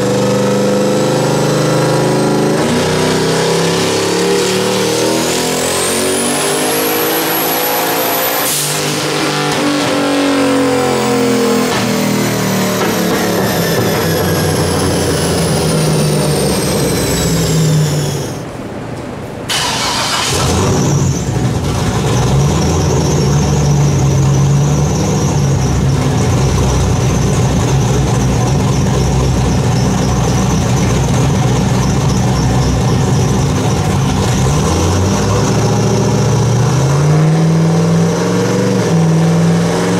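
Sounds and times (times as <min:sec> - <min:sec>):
car engine revving: 0:00.0 - 0:18.4, 0:19.5 - 0:39.9
high turbo whine: 0:00.0 - 0:39.9.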